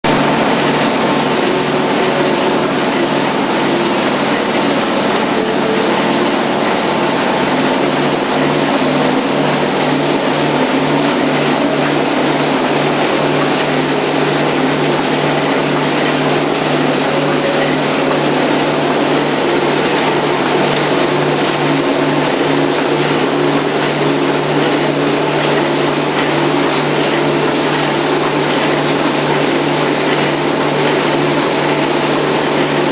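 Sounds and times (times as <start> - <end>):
welding machine pulsing hum: 0.1 - 32.9.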